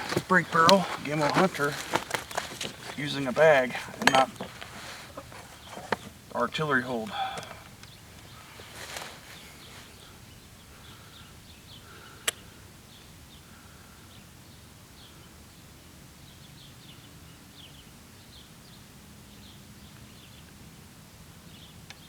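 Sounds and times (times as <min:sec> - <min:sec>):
small birds chirping: 0:00.0 - 0:20.7.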